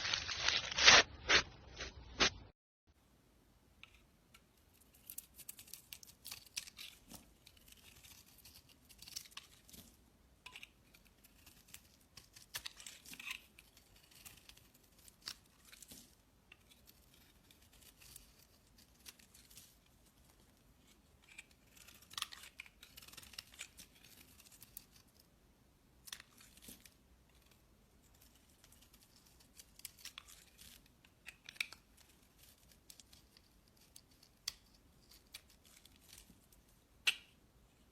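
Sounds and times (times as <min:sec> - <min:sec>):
crisp crackling and snipping: 0:00.0 - 0:02.4, 0:04.8 - 0:25.3, 0:26.0 - 0:37.3.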